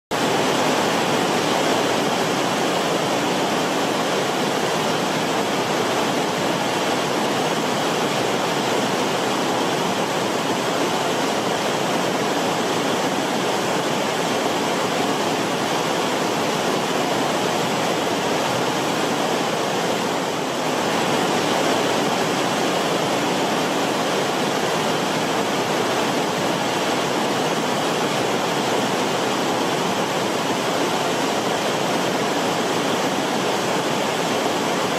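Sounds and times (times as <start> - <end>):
creek water over rocks: 0.1 - 34.9.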